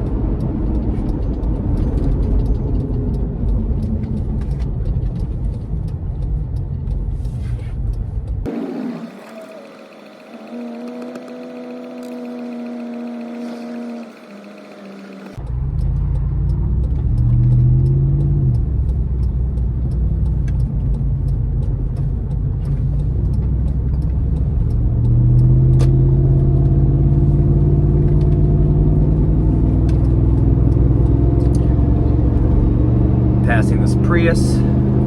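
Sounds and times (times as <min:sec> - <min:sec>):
car engine drone and rumble: 0:00.0 - 0:35.0
road noise: 0:00.0 - 0:35.0.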